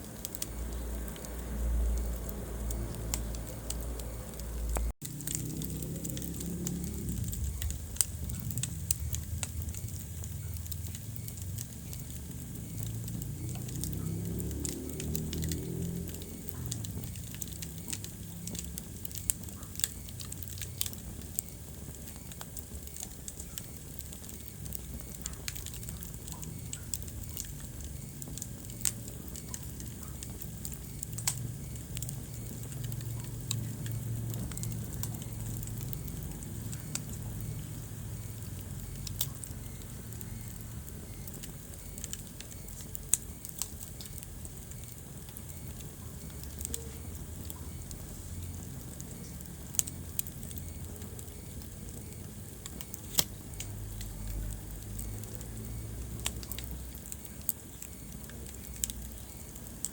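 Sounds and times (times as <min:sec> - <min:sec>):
low rumble of burning logs: 0:00.0 - 0:59.9
wood fire crackling and popping: 0:00.0 - 0:59.9.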